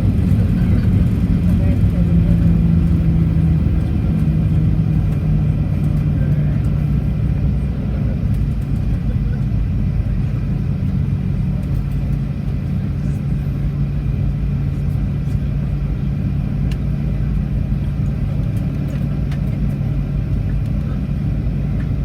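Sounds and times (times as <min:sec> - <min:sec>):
airliner cabin rumble and engine drone: 0:00.0 - 0:22.0.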